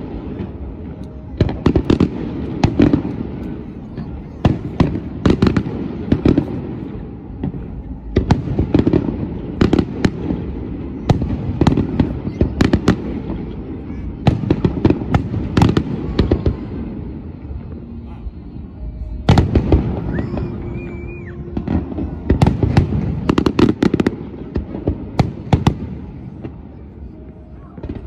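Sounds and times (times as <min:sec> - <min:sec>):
firework bangs and crackles: 0:00.0 - 0:28.0
low rumbling echo: 0:00.0 - 0:28.0.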